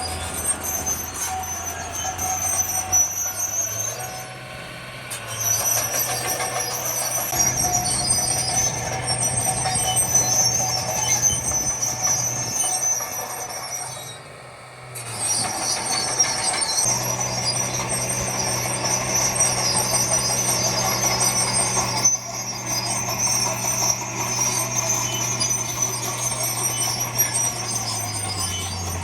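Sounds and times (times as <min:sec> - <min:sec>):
diesel machinery running: 0:00.0 - 0:29.0
high-pitched metallic squeal: 0:00.0 - 0:29.0.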